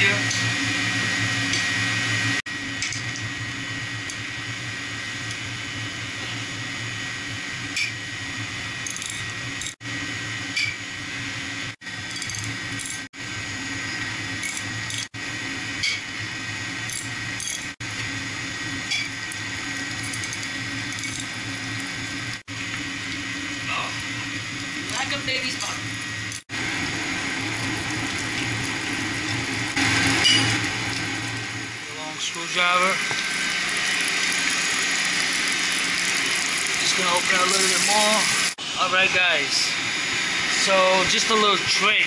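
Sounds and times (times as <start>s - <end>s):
circulating pump humming: 0.0s - 42.0s.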